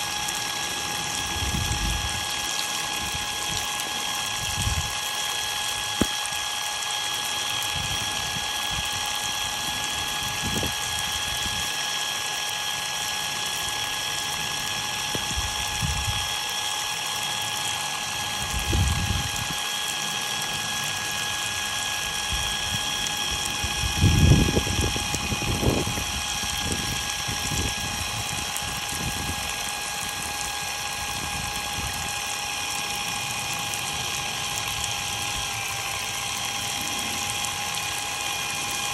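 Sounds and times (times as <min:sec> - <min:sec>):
high motor whine: 0:00.0 - 0:38.9
water spraying: 0:00.0 - 0:38.9.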